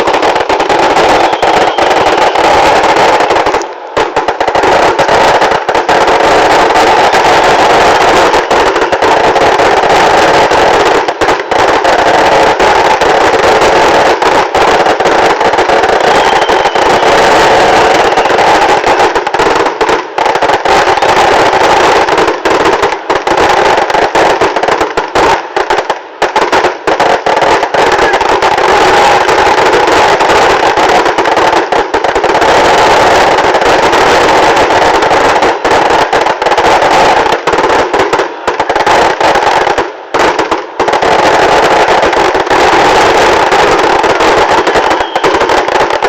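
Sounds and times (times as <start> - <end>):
firecrackers cracking and popping: 0.0 - 46.0.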